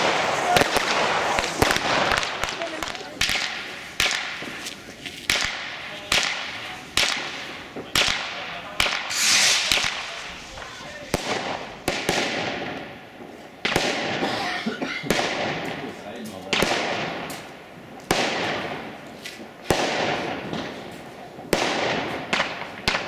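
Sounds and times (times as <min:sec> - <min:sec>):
fireworks bangs with echo: 0:00.0 - 0:23.0
fireworks crackling: 0:00.0 - 0:23.0.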